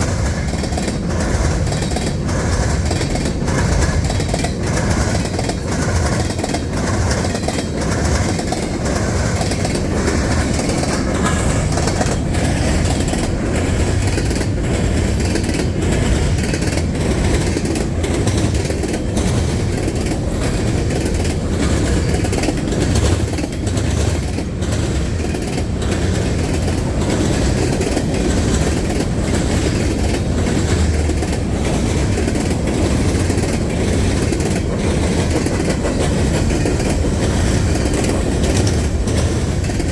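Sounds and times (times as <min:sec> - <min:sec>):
train rumbling past: 0:00.0 - 0:39.9
wheels clacking over rail joints: 0:00.0 - 0:39.9.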